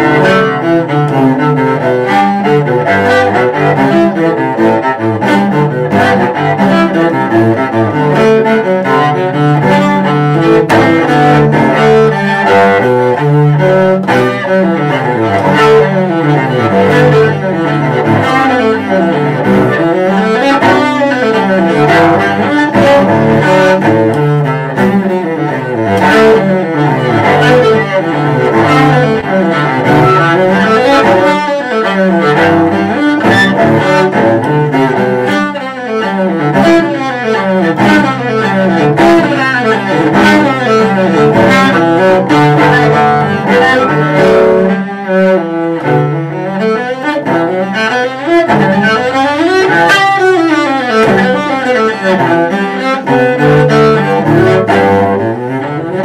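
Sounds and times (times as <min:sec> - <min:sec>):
bowed cello fast runs: 0:00.0 - 0:56.0.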